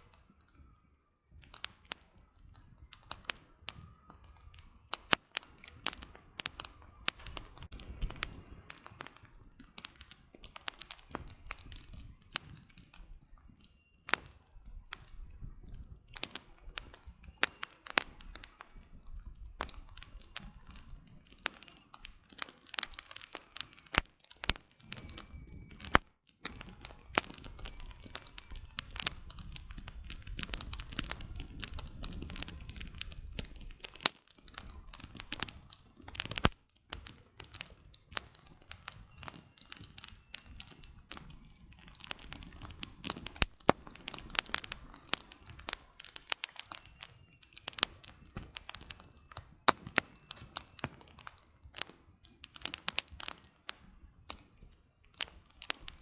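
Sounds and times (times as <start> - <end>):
firewood crackling and popping: 0.0 - 56.0
soft rush of flame: 1.3 - 56.0.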